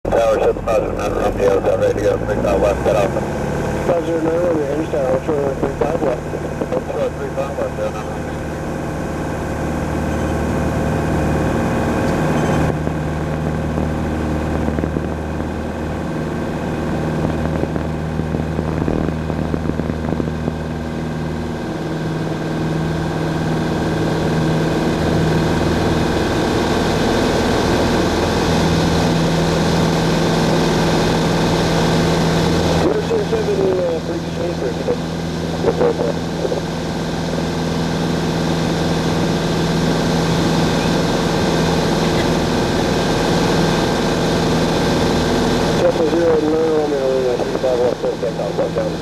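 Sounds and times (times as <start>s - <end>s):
airplane engine drone: 0.0s - 49.0s.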